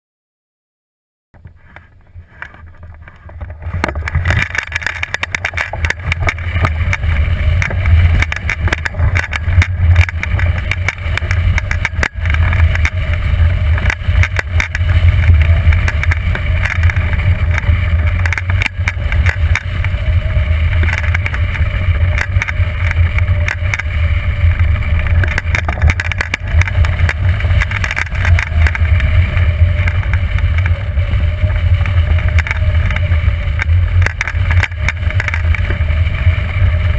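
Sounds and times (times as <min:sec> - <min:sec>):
wind buffeting microphone: 0:01.6 - 0:36.9.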